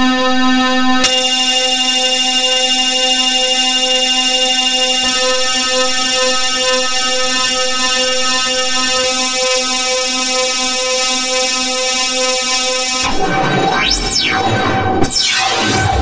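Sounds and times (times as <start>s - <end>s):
dense drone of stacked tones: 1.0s - 16.0s.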